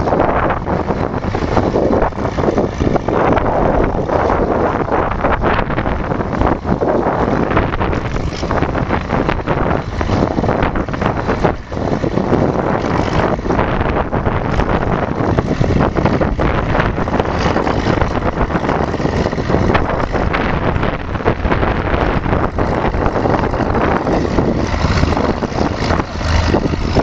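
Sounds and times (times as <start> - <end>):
crawler tractor running: 0.0 - 27.0
wind buffeting microphone: 0.0 - 27.0.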